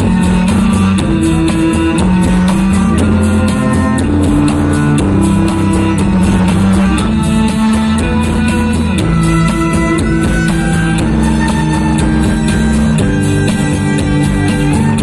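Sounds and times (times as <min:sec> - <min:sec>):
fast ticking beat: 0:00.0 - 0:15.0
sustained low string notes: 0:00.0 - 0:15.0.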